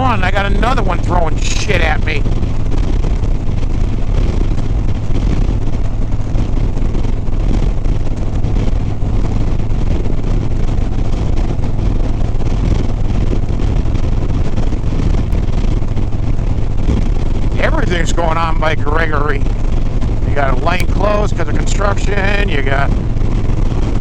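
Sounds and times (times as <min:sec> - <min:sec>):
motorcycle engine running: 0:00.0 - 0:24.0
wind on microphone: 0:00.0 - 0:24.0.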